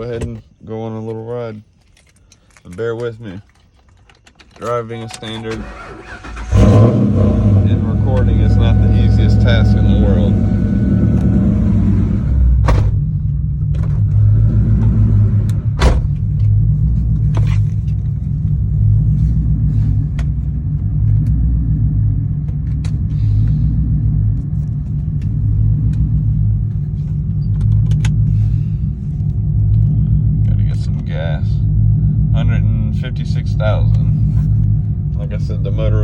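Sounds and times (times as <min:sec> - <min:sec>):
car engine low rumble: 0:00.0 - 0:36.0.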